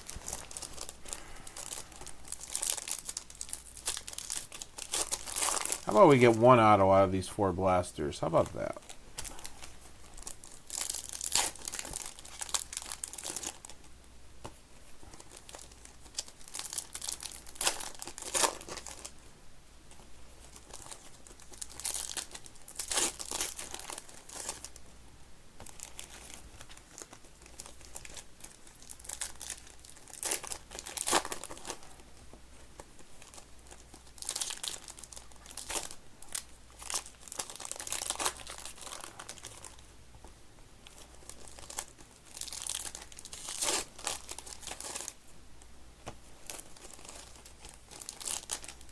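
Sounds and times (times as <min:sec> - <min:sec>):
foil wrappers tearing and crinkling: 0:00.0 - 0:06.6, 0:09.2 - 0:13.8, 0:15.1 - 0:19.2, 0:20.4 - 0:24.8, 0:25.6 - 0:32.0, 0:32.8 - 0:39.8, 0:40.8 - 0:45.2, 0:46.4 - 0:48.9.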